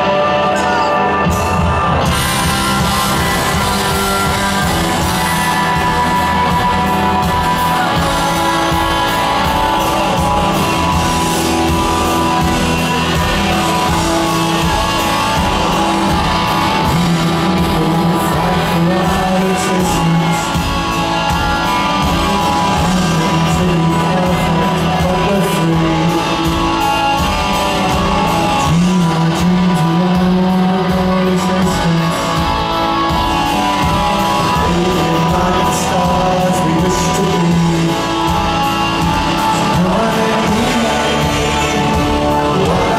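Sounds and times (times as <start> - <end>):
live rock band playing: 0.0 - 42.9
man singing lead vocal: 0.0 - 42.9.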